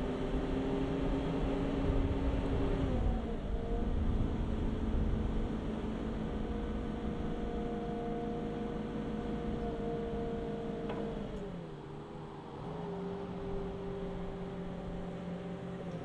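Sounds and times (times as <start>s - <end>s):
forklift engine running: 0.0s - 16.0s.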